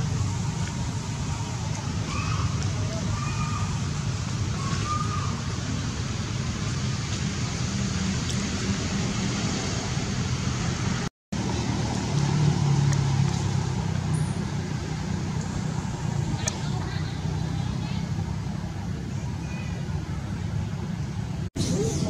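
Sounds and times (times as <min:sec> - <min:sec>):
continuous low rumble: 0:00.0 - 0:22.0.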